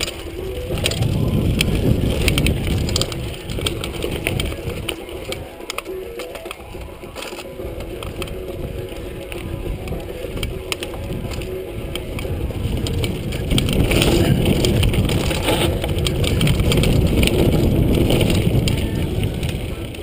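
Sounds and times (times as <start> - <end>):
bike rattling and knocking: 0.0 - 20.0
tyres rolling over dirt: 0.0 - 20.0
wind across microphone: 0.0 - 20.0.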